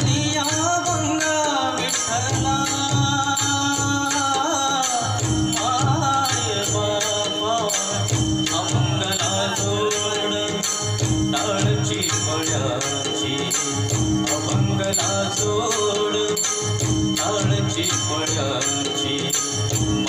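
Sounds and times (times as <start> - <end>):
steady percussion beat: 0.0 - 20.0.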